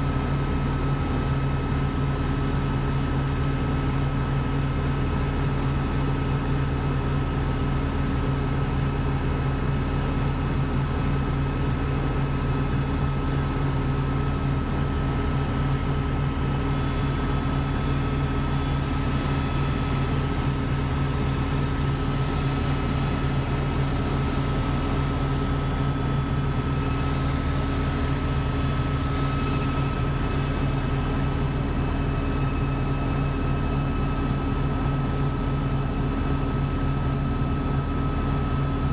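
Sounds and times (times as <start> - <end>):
helicopter rotor and engine drone: 0.0 - 38.9.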